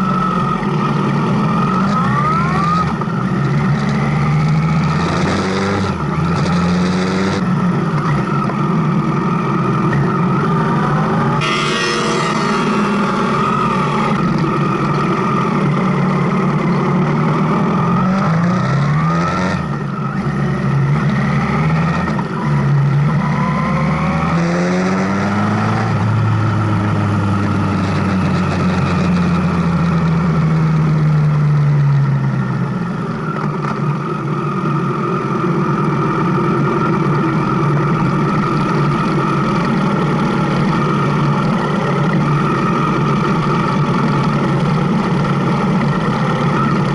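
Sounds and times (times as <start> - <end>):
motorcycle engine revving: 0.0 - 46.9
wind and road noise: 0.0 - 46.9.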